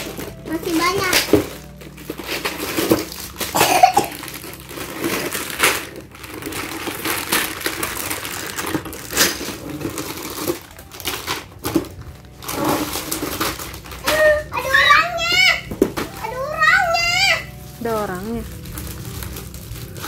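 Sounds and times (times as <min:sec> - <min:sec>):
packaging crinkling and rustling: 0:00.0 - 0:20.0
sharp plastic crackles: 0:00.0 - 0:20.0.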